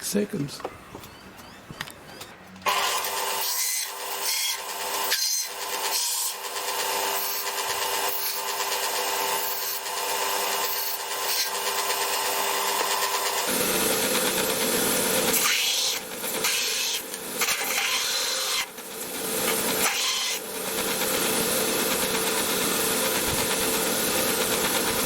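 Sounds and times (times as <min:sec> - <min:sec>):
metal-cutting tool rasping: 0:02.1 - 0:25.0.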